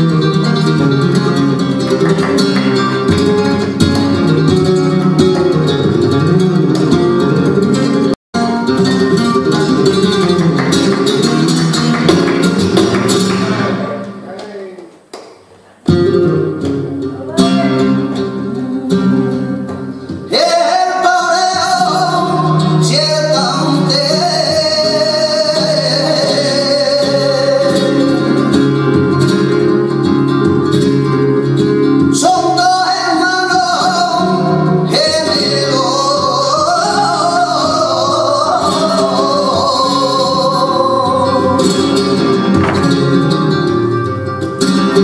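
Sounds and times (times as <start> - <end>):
man singing flamenco: 0.0 - 8.1, 8.7 - 15.0, 15.8 - 45.0
flamenco guitar strumming: 0.0 - 45.0.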